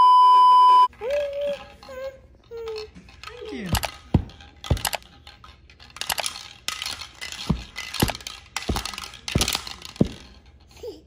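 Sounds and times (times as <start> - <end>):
toy rattle ball rattling: 1.3 - 11.0.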